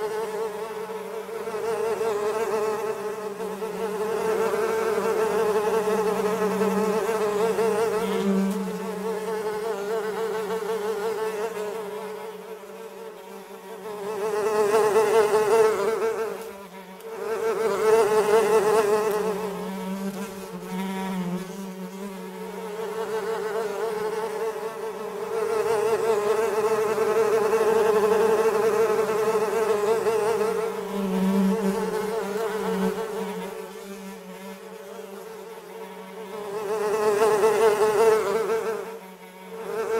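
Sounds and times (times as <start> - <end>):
flies buzzing: 0.0 - 39.9.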